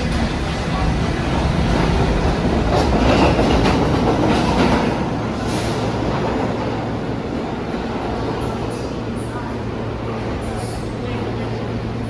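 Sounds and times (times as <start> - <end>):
subway train wheels rumbling: 0.0 - 12.0.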